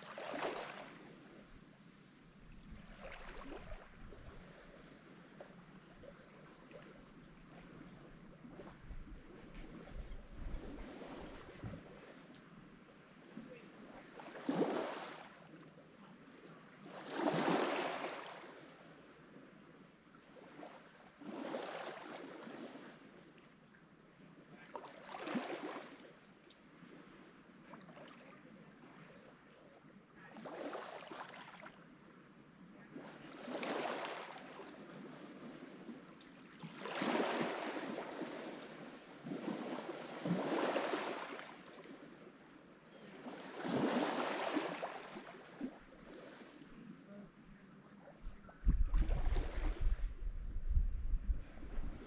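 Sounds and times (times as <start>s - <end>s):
waves breaking on shore: 0.0s - 12.3s, 13.0s - 19.2s, 20.4s - 23.4s, 24.5s - 29.3s, 30.3s - 32.0s, 32.8s - 42.3s, 42.9s - 47.2s, 48.3s - 50.4s.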